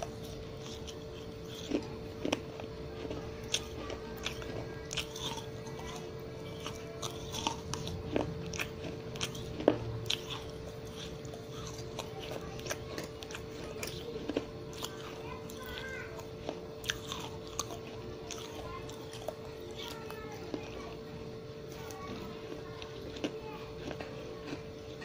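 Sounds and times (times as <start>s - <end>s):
mouth chewing and crunching clay: 0.0s - 25.0s.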